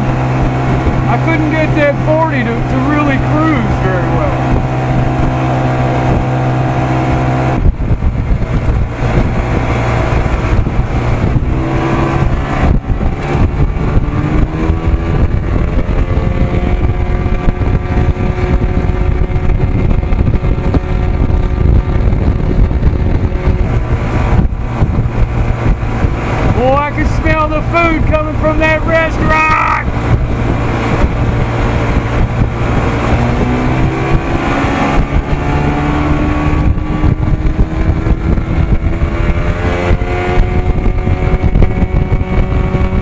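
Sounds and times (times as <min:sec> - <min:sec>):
outboard motor running: 0:00.0 - 0:43.0
rushing wind and water: 0:00.0 - 0:43.0.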